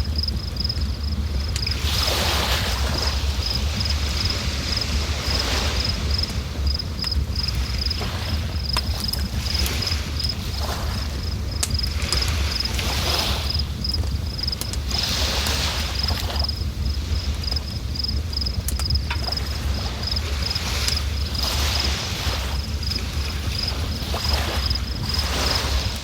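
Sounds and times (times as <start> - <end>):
insect chirping: 0.0 - 26.0
low rumble: 0.0 - 26.0.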